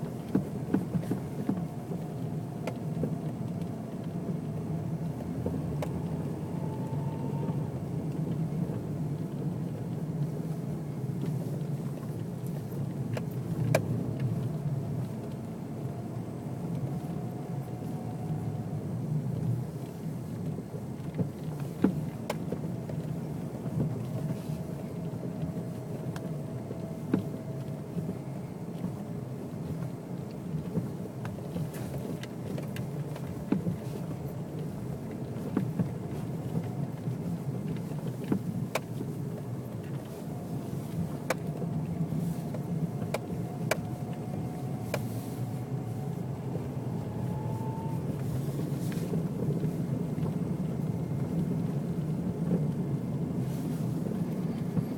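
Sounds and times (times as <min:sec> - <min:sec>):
car engine running with whine: 0:00.0 - 0:54.9.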